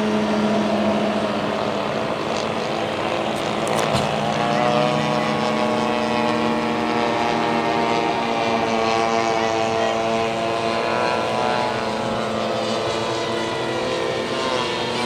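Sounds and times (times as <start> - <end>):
model plane engine and propeller: 0.0 - 15.0.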